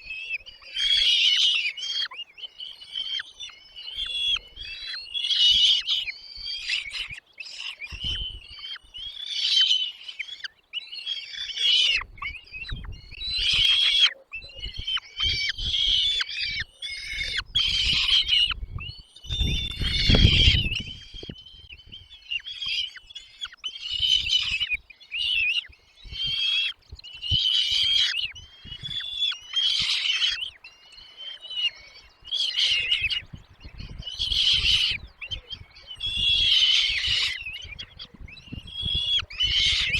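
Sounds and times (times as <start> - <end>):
chicks chirping shrilly: 0.1 - 39.9.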